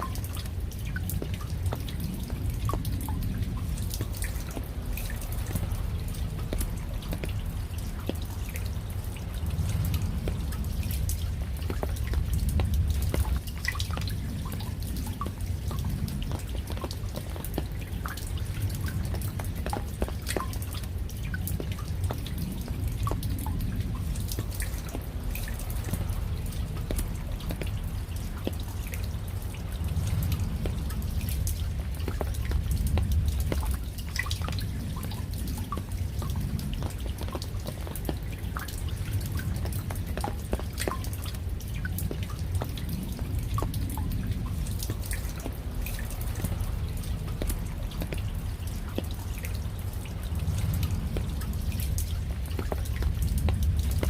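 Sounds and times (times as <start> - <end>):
low steady rumble: 0.0 - 54.0
raindrops ticking and dripping: 0.0 - 54.0.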